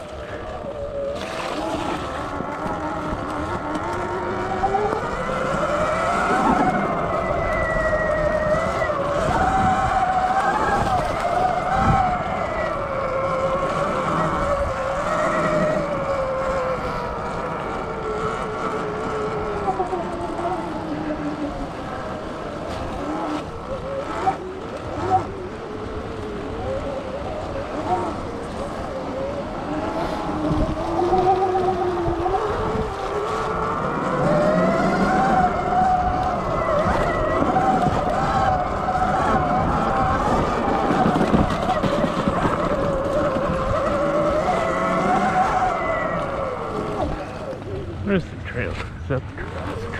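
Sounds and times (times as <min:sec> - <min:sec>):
electric motor whining: 0:00.0 - 0:48.2
rough rumble with small knocks: 0:00.0 - 0:49.9
tyre and wind noise: 0:00.0 - 0:49.9.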